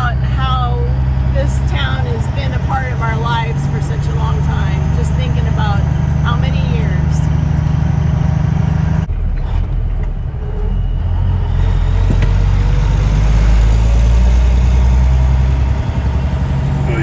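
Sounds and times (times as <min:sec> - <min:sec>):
engine and road drone in cab: 0:00.0 - 0:17.0.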